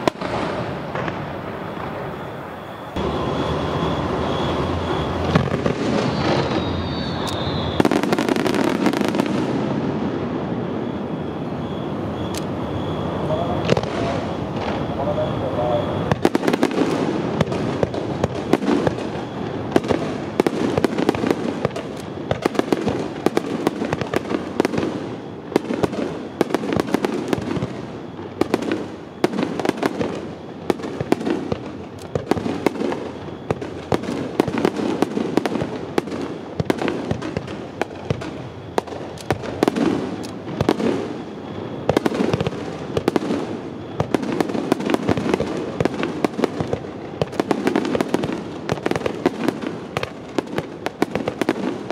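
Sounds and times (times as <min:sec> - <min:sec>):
fireworks bangs: 0:00.0 - 0:51.9
rumble of fireworks bursts: 0:00.0 - 0:51.9.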